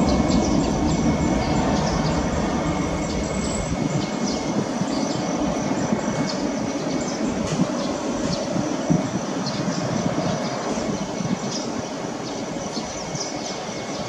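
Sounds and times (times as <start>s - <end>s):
jet engines roaring at takeoff: 0.0s - 14.0s.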